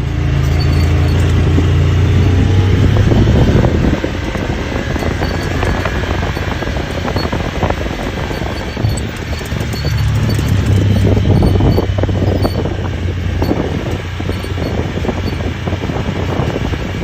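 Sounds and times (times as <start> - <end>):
engine droning: 0.0 - 17.0
wind buffeting microphone: 0.2 - 17.0.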